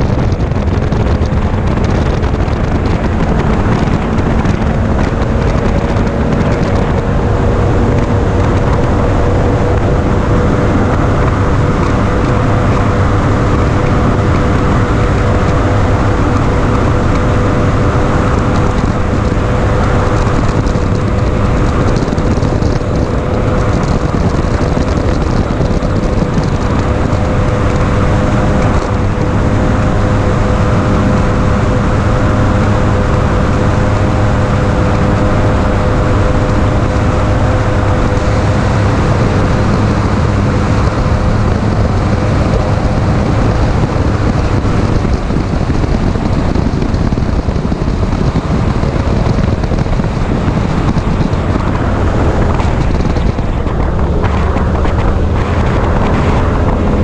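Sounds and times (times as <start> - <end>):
hull rushing on water: 0.0 - 57.0
outboard motor running at high speed: 0.0 - 57.0.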